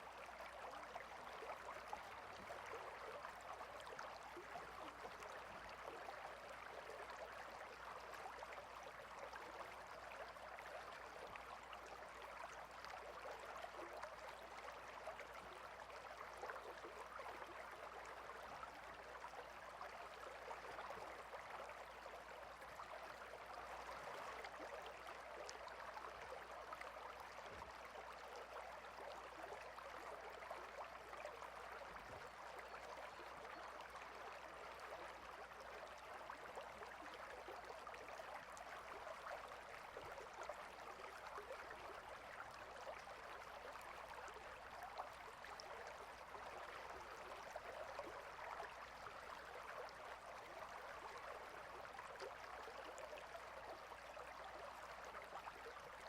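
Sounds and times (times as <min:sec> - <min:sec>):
small stream flowing: 0:00.0 - 0:56.0.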